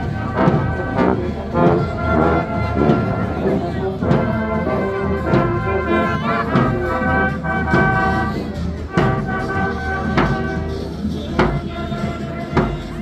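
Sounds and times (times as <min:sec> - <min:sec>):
brass band playing: 0:00.0 - 0:13.0
drum beat: 0:00.0 - 0:13.0.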